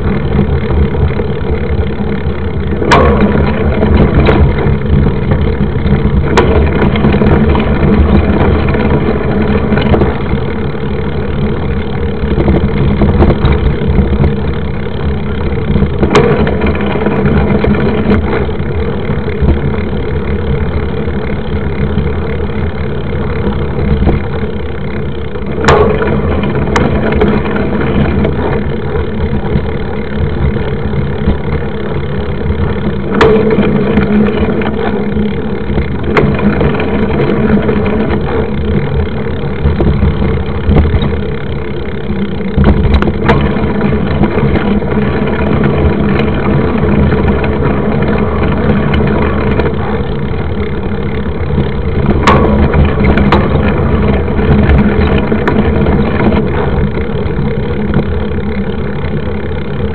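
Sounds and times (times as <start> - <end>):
bike tyre rolling over dirt: 0.0 - 59.9
wind buffeting microphone: 0.0 - 59.9.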